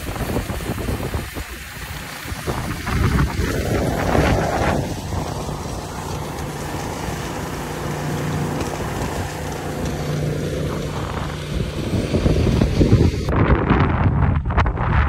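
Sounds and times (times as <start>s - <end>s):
diesel engine humming: 0.0s - 13.3s.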